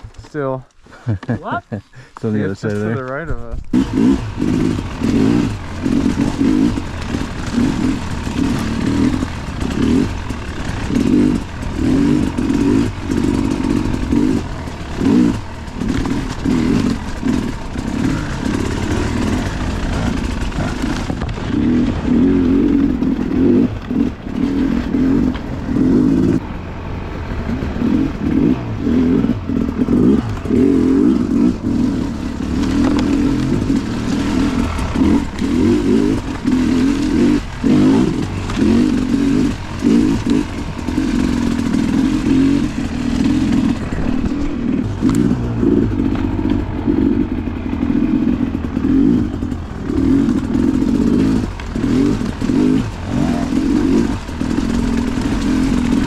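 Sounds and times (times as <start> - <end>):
dirt bike engine revving: 1.0 - 56.0.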